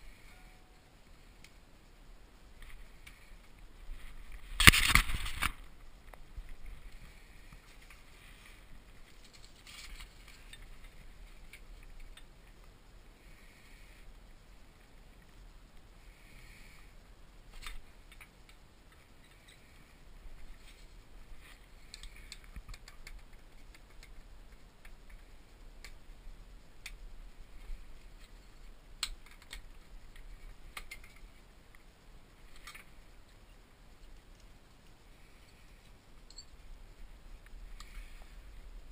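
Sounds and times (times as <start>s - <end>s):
faint low hum: 0.0s - 38.9s.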